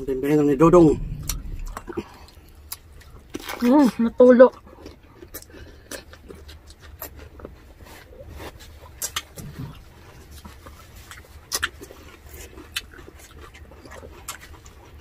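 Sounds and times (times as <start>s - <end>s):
wet chewing: 1.0s - 15.0s.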